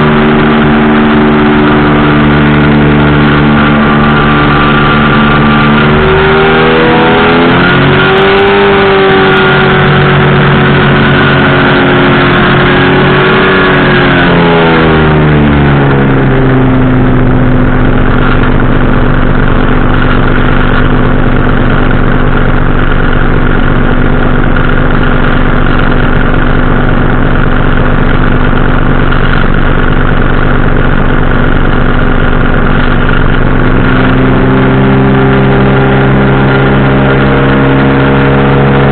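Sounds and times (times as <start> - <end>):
engine and propeller droning: 0.0 - 38.9.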